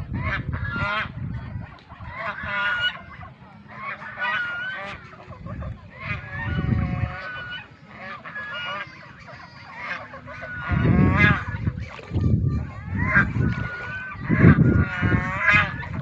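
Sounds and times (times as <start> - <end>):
low rumbling noise: 0.0 - 16.0
waterfowl honking: 0.1 - 16.0.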